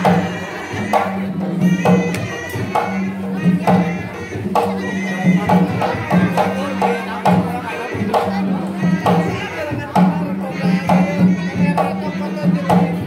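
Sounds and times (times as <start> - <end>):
hand drums beating: 0.0 - 13.0.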